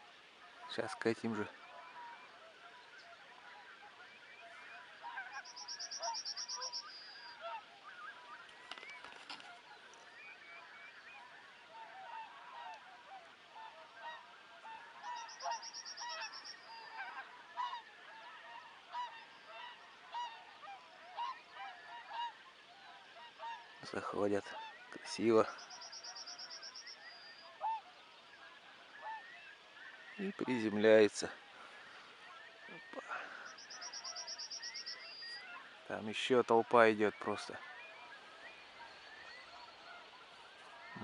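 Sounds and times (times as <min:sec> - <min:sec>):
geese honking: 0:00.0 - 0:41.0.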